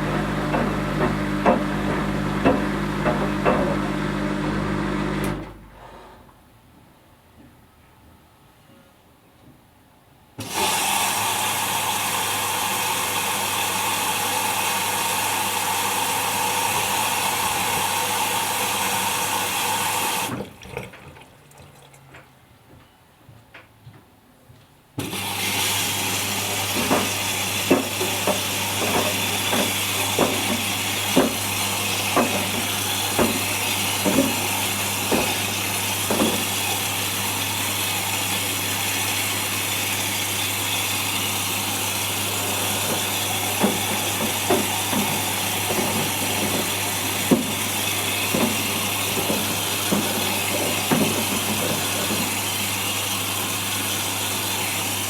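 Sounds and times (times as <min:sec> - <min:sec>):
washing machine filling with water: 0:00.0 - 0:05.8, 0:10.4 - 0:22.5, 0:25.0 - 0:55.0.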